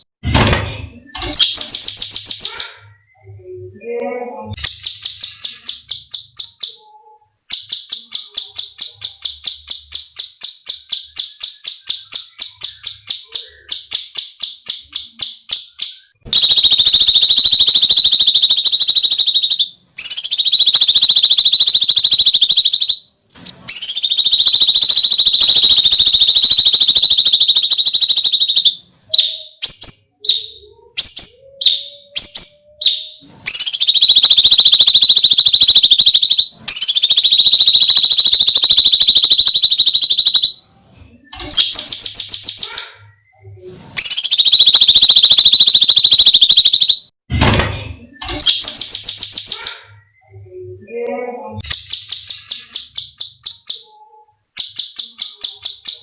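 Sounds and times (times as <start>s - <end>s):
songbird rapid sharp chirps: 0.6s - 3.3s, 4.5s - 47.1s, 48.0s - 50.4s, 51.6s - 56.0s.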